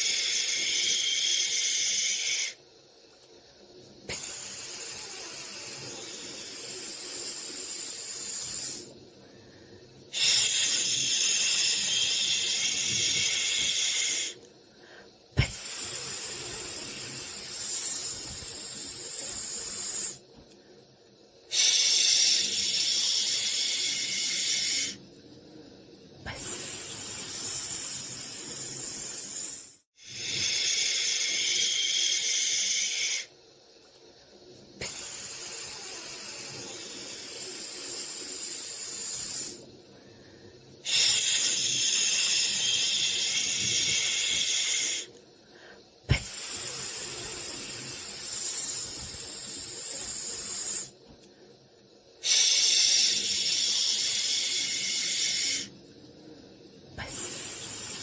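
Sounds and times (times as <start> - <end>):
hissing white noise: 0.0 - 58.0.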